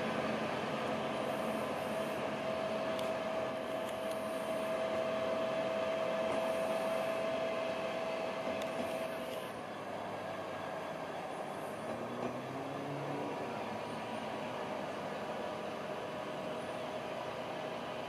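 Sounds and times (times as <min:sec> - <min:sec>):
steady whine: 0:00.0 - 0:18.0.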